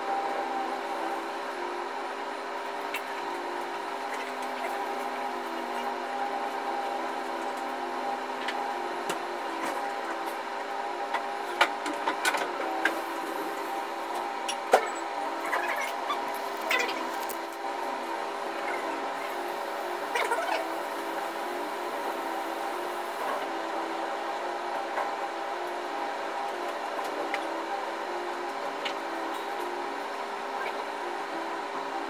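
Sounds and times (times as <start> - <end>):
excavator engine and hydraulic drone: 0.0 - 32.0.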